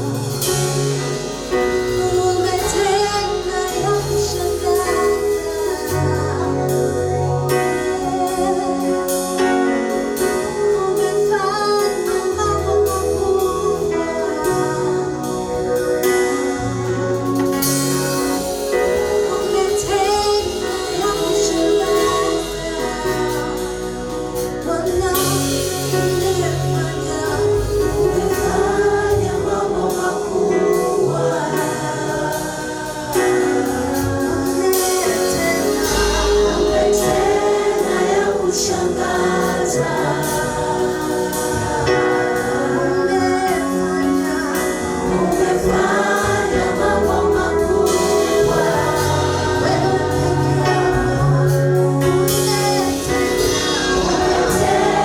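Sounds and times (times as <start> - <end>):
band with bass keyboard drums: 0.0 - 55.0
choir singing gospel song: 0.0 - 55.0.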